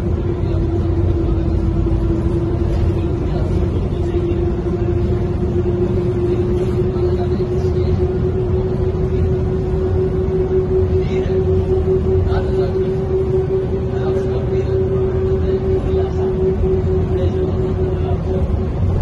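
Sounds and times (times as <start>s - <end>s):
bus engine rumble: 0.0s - 19.0s
drivetrain whine rising in pitch: 0.0s - 19.0s.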